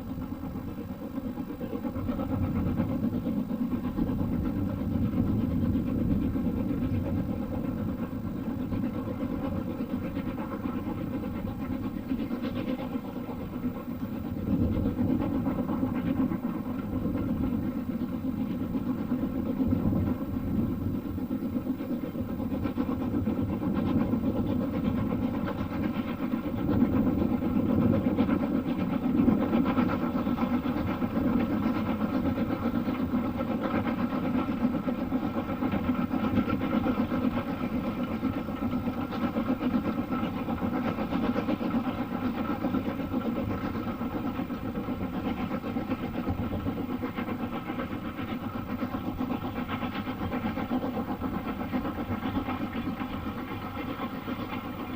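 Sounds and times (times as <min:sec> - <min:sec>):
train engine drone: 0:00.0 - 0:54.9.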